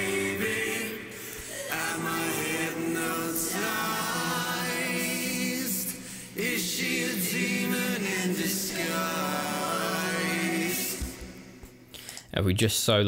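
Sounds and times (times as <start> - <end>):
layered male singing: 0.0 - 11.4.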